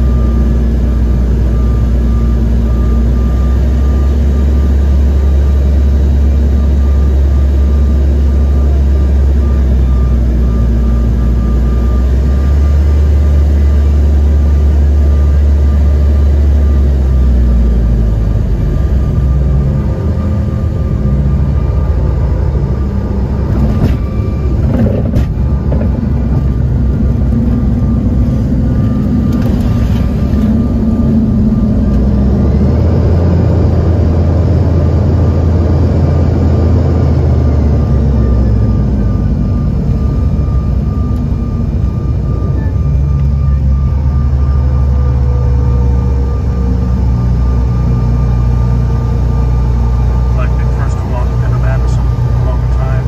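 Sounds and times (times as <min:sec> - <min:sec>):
jet cabin engine rumble: 0:00.0 - 0:53.0.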